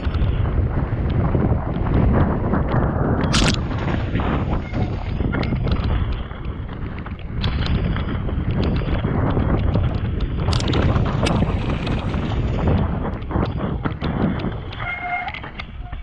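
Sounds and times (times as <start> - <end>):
tractor engine rumbling: 0.0 - 16.0
wind buffeting microphone: 0.0 - 16.0
sharp clicks and knocks: 1.0 - 3.8, 4.6 - 16.0.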